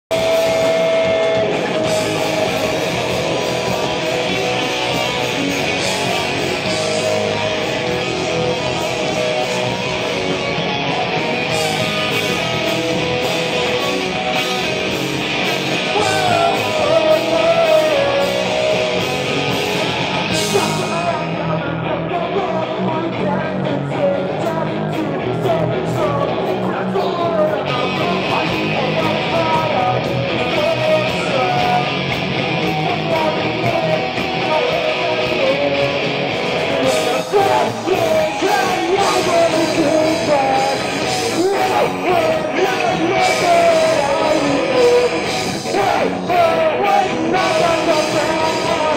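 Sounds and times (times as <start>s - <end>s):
bass guitar: 0.0s - 48.9s
distorted electric guitars: 0.0s - 48.9s
drums: 0.0s - 48.9s
person singing: 0.1s - 48.9s.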